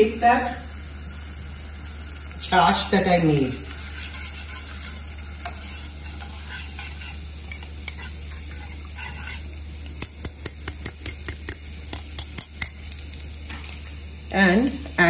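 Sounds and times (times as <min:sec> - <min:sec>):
spices sizzling in fat: 0:00.0 - 0:15.0.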